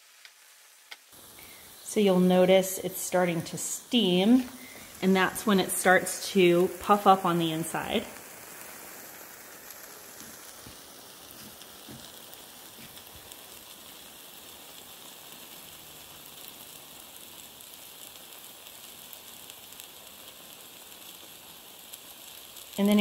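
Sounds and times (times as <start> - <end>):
batter sizzling in waffle maker: 0.0 - 23.0.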